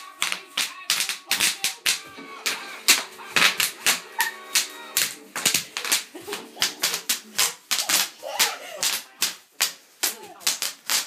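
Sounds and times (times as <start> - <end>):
bubble wrap popping: 0.0 - 11.0.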